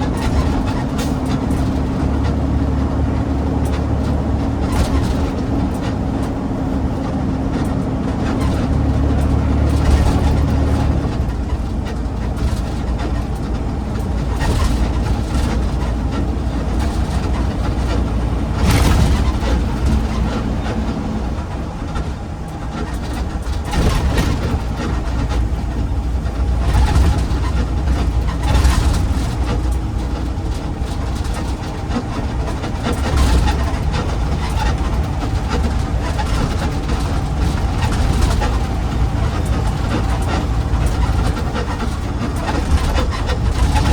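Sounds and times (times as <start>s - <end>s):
bumps and clatters: 0.0s - 43.9s
garbage truck engine running: 0.0s - 43.9s
road noise: 0.0s - 43.9s.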